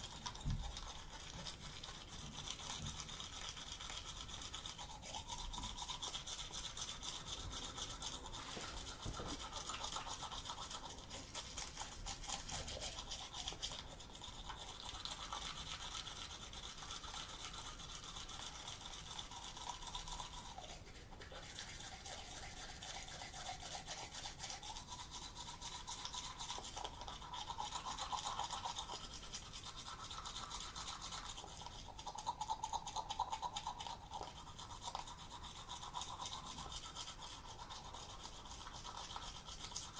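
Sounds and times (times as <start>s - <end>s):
toothbrush scrubbing teeth: 0.0s - 39.9s.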